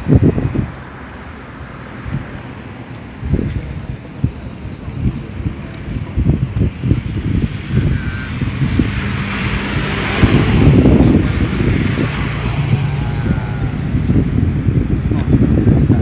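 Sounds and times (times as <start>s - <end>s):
road traffic on a bridge: 0.0s - 16.0s
wind buffeting microphone: 0.0s - 16.0s
vehicle passing by: 0.1s - 15.6s.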